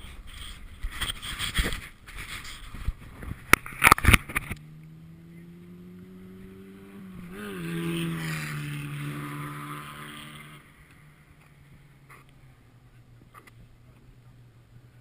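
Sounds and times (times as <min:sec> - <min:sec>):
race car engine humming: 0:00.0 - 0:15.0.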